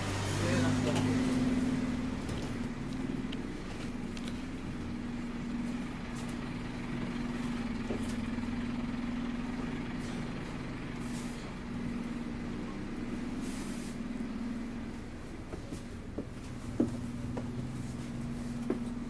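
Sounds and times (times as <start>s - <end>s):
bus diesel engine idling: 0.0s - 19.0s.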